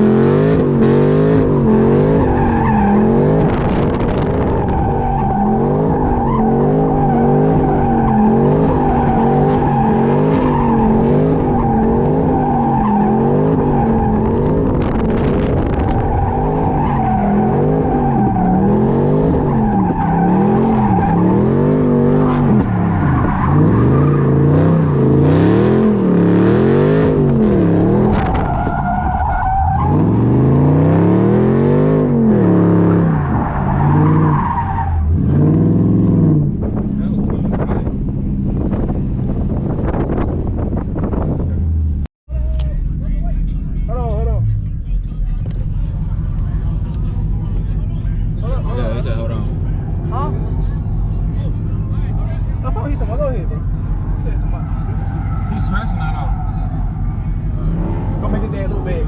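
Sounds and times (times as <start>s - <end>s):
tires skidding: 0.0s - 42.0s, 45.4s - 59.0s
car engine revving: 0.0s - 59.0s.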